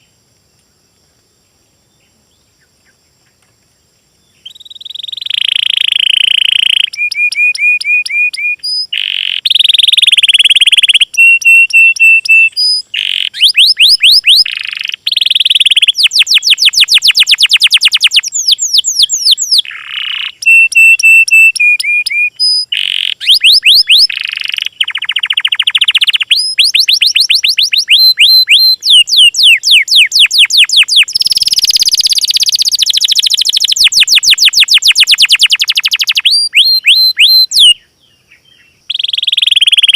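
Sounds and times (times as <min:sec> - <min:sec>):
songbirds trilling: 0:01.9 - 0:39.9.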